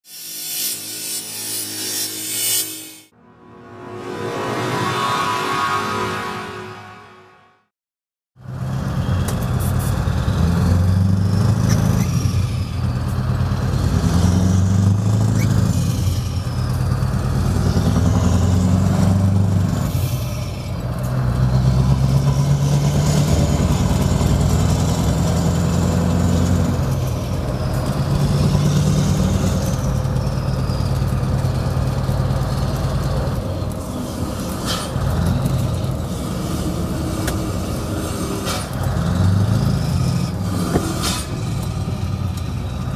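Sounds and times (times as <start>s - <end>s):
diesel truck engine accelerating: 8.4s - 42.9s.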